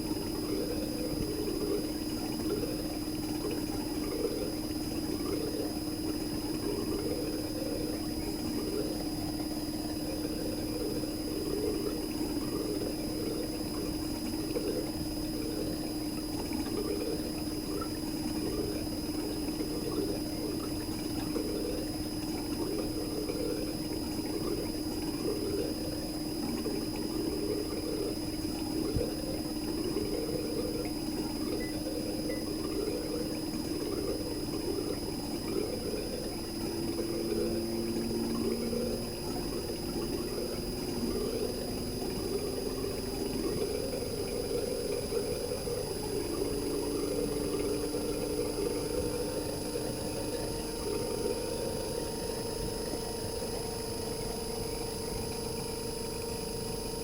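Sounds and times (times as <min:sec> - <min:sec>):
air conditioner compressor humming: 0:00.0 - 0:57.0.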